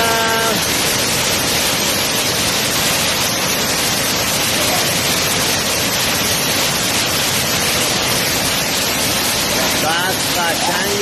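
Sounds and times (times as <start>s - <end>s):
waterfall pouring over rock: 0.0s - 11.0s.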